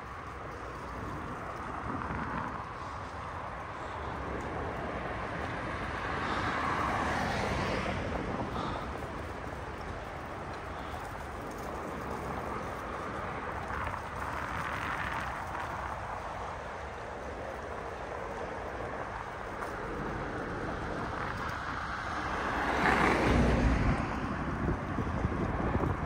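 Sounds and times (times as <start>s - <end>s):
road noise: 0.0s - 26.0s
wind noise while riding: 0.0s - 26.0s.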